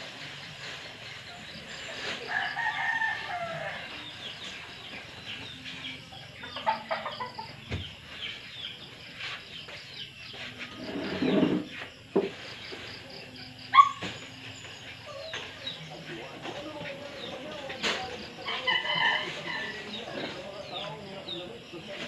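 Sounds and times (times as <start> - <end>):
chickens clucking: 3.9 - 22.0.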